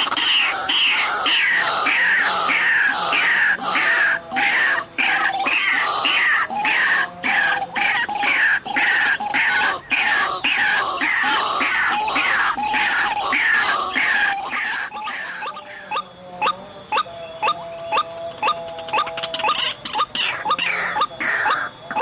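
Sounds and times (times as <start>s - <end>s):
waterhens calling: 0.0s - 22.0s.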